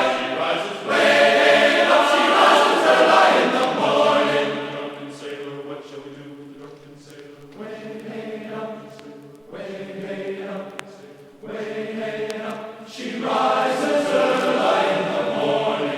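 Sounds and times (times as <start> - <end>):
choir singing held chords: 0.0 - 15.9.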